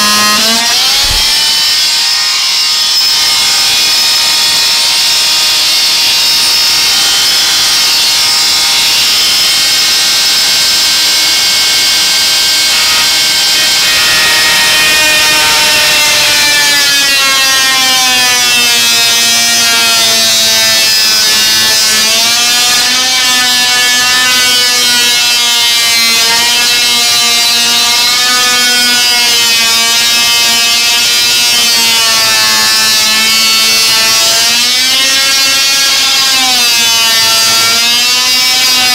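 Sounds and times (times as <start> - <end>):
oscillating multi-tool cutting wood: 0.0 - 38.9.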